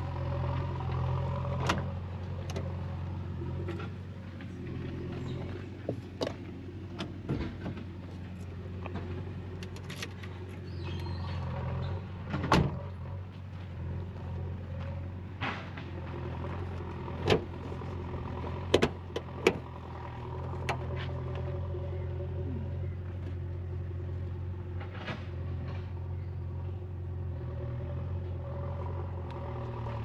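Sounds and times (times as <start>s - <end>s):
car engine humming: 0.0s - 30.0s.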